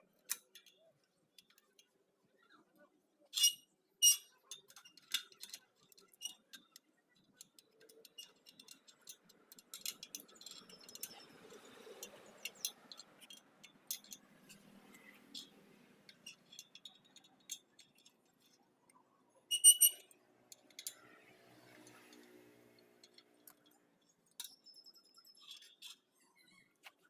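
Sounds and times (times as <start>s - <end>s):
light metal ticks and clicks: 4.2s - 26.1s.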